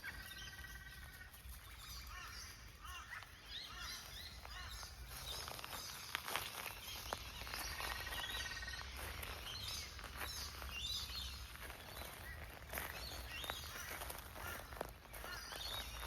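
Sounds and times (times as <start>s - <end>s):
bird trill: 0.0s - 16.0s
birds chirping and calling: 0.0s - 16.0s.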